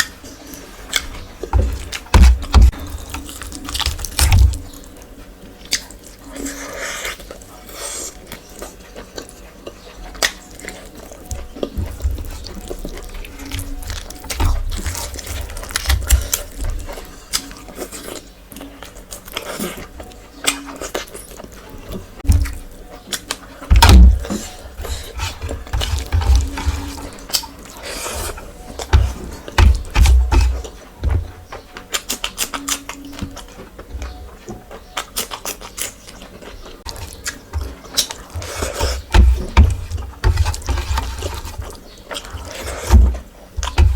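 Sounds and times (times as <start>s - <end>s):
wet chewing and slurping: 0.0s - 43.8s.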